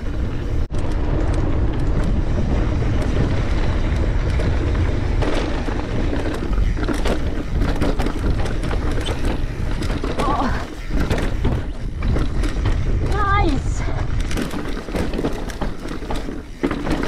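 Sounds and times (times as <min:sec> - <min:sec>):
wind buffeting on microphone: 0:00.0 - 0:16.6
bike chain and frame rattling: 0:00.0 - 0:17.0
bike tyre rumble on dirt: 0:00.0 - 0:17.0.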